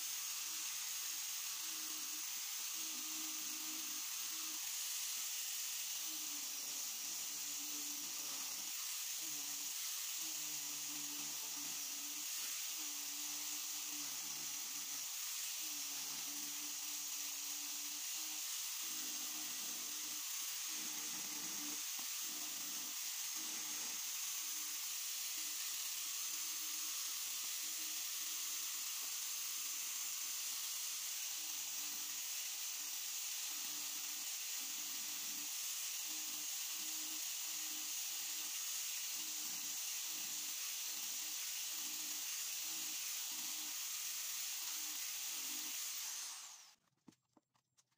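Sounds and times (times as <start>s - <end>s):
angle grinder sanding wood: 0.0s - 46.8s.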